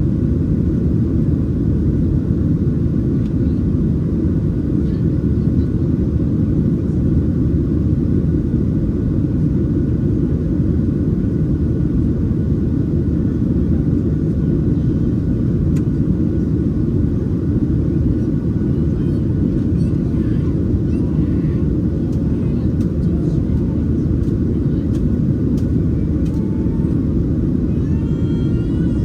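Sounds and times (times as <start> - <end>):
airplane cabin roar: 0.0 - 29.0.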